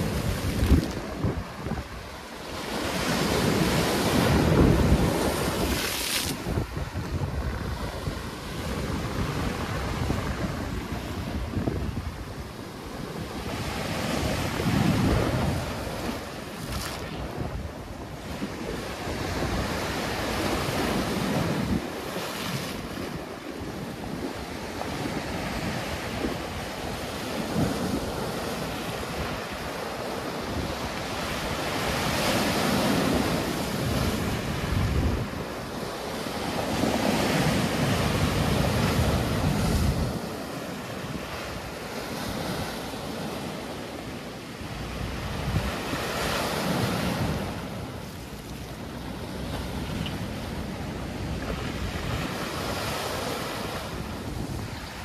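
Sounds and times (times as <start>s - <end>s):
sea waves breaking on shore: 0.0s - 55.0s
wind buffeting microphone: 0.0s - 55.0s.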